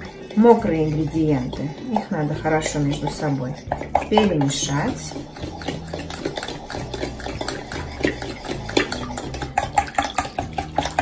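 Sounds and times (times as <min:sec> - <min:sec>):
utensil ticking against bowl: 0:00.0 - 0:11.0.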